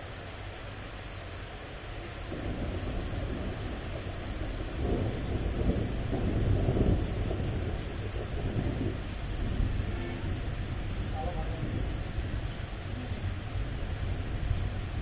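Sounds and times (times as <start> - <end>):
rain hissing: 0.0 - 15.0
rolling thunder: 2.3 - 15.0.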